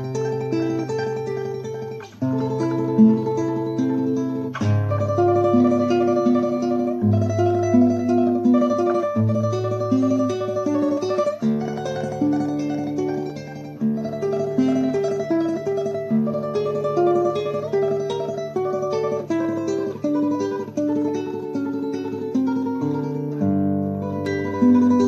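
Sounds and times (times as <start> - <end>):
solo classical guitar tremolo: 0.0 - 25.0.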